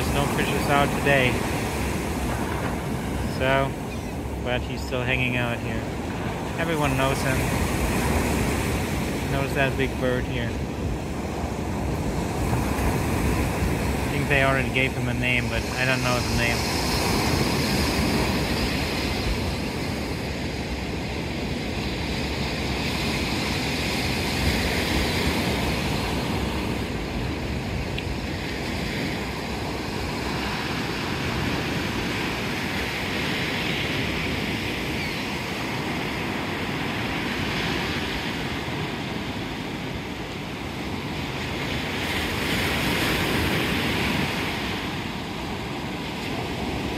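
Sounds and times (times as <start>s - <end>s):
waves washing up sandy beach: 0.0s - 46.9s.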